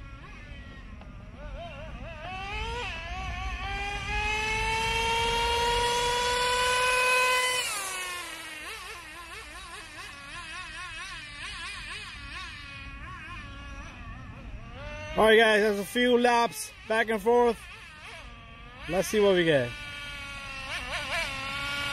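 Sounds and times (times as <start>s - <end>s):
nitro engine whining: 0.0s - 21.9s.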